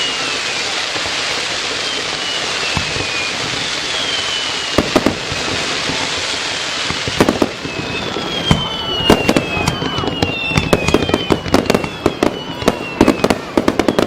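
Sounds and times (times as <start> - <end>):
firework bangs: 0.0 - 14.0
firework whistles: 0.0 - 14.0
steady noisy hiss: 0.0 - 14.0.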